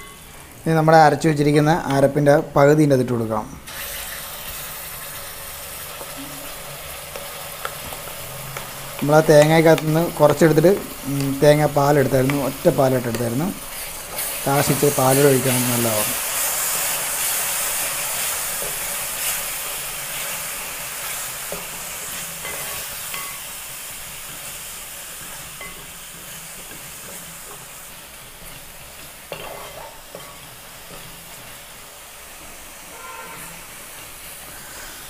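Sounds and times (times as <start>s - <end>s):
paste sizzling in hot oil: 3.7s - 35.0s.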